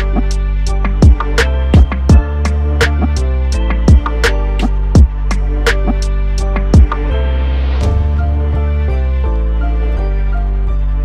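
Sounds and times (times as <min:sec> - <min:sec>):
instrumental music with bass: 0:00.0 - 0:11.0.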